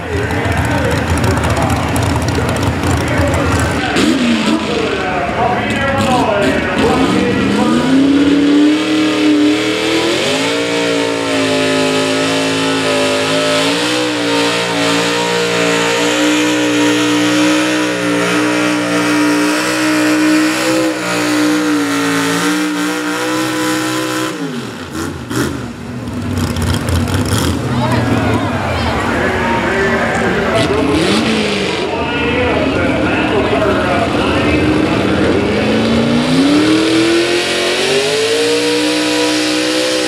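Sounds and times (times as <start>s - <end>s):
truck engine at high revs: 0.0s - 40.0s.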